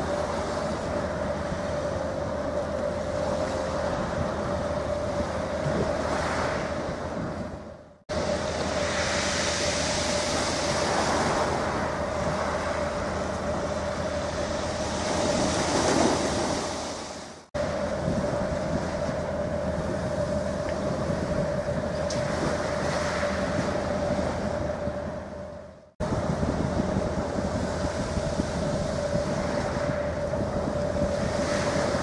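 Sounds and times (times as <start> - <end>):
ship diesel engines droning: 0.0 - 32.0
wind and water hiss: 0.0 - 32.0.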